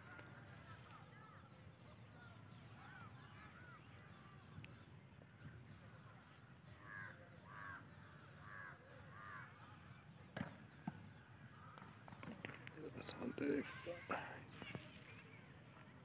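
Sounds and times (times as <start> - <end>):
bird calls: 0.0 - 15.5.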